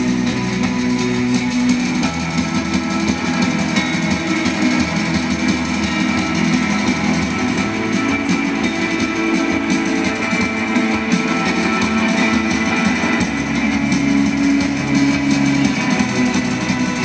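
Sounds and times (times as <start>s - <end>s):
light drums: 0.0s - 17.0s
post-rock band playing: 0.0s - 17.0s
sustained electric guitars: 0.0s - 17.0s.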